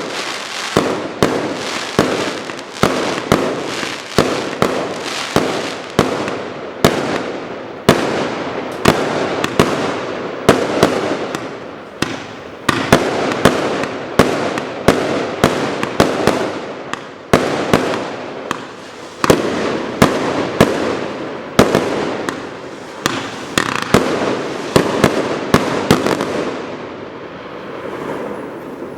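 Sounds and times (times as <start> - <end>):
fireworks reports: 0.0 - 28.9
hissing crackling fireworks bursts: 0.0 - 28.9.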